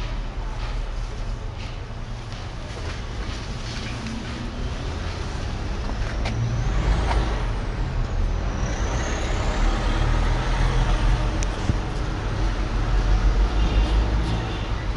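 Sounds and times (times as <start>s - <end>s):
heavy vehicle engine rumble: 0.0s - 14.9s.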